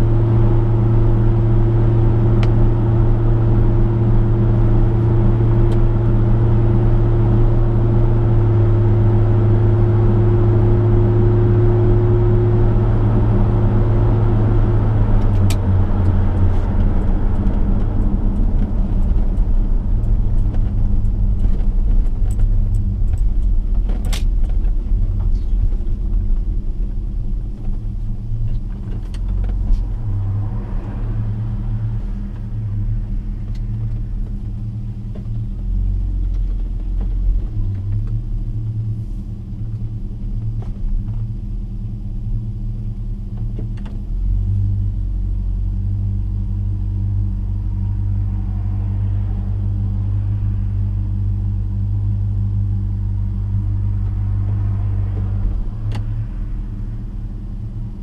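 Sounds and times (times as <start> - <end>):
car engine drone: 0.0 - 58.0
road and wind noise: 0.0 - 58.0.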